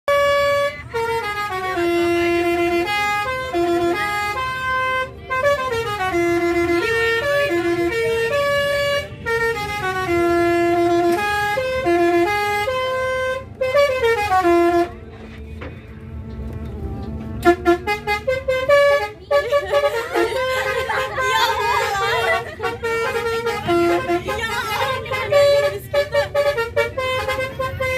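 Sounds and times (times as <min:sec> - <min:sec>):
musical bus horn melody: 0:00.0 - 0:27.9
engine rumble: 0:00.1 - 0:27.9.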